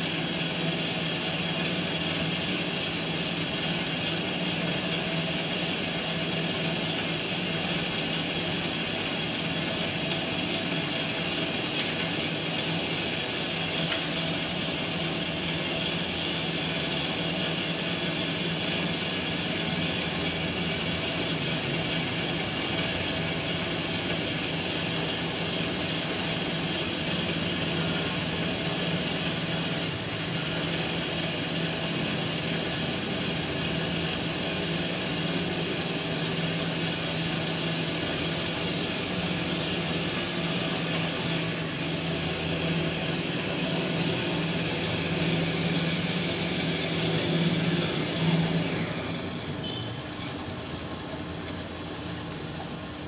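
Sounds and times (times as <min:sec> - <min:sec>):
band saw motor hum: 0:00.0 - 0:53.0.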